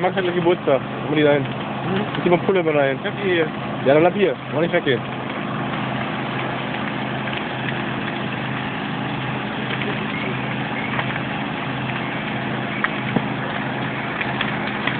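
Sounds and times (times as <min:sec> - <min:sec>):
steady engine drone: 0:00.0 - 0:14.9.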